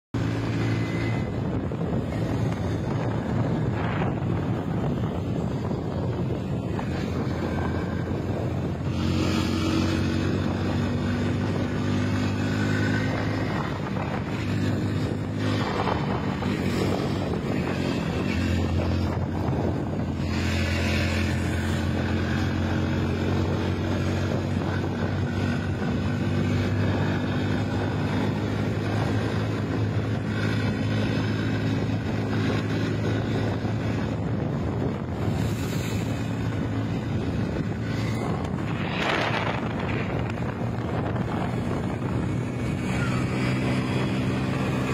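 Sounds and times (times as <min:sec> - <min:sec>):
motorcycle engine cruising: 0:00.2 - 0:44.9
wind rush on microphone: 0:00.2 - 0:44.9.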